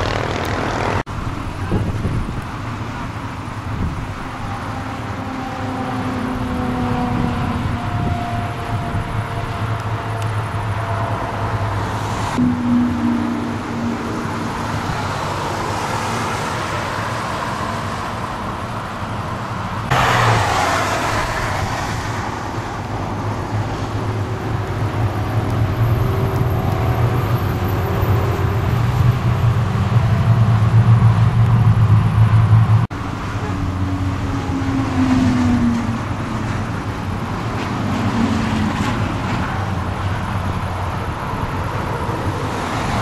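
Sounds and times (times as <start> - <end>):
loud rush of noise: 0.0 - 5.3, 7.1 - 43.0
tyre and wind roar: 0.0 - 43.0
sports cars passing: 2.6 - 43.0.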